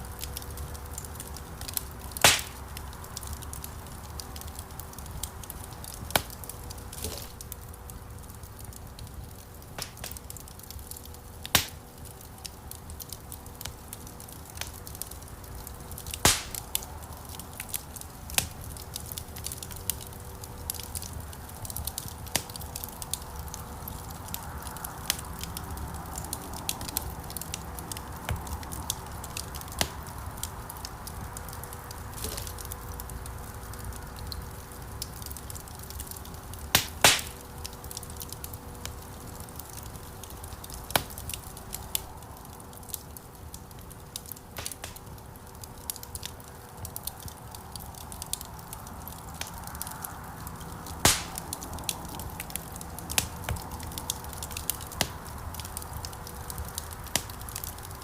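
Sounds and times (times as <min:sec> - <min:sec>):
fireplace fire burning: 0:00.0 - 0:58.0
sharp fire pops: 0:00.2 - 0:58.0.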